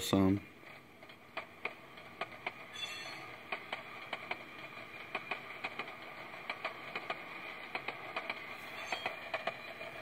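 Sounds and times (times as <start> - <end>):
steady rolling noise: 0.0 - 10.0
wheel clicks over rail joints: 0.0 - 10.0.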